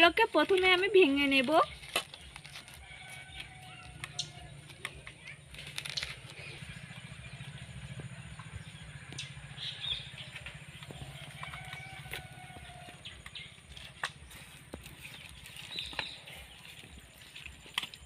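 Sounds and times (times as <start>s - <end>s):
low pulsing hum: 1.6s - 18.0s.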